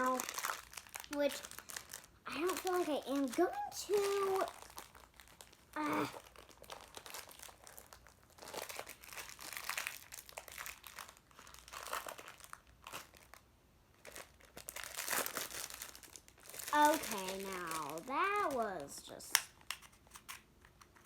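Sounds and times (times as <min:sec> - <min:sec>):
crinkly packaging rustling: 0:00.0 - 0:21.0.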